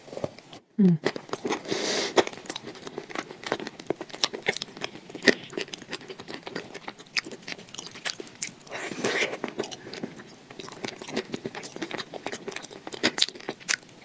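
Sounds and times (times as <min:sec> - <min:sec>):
wet chewing: 0:01.0 - 0:14.0.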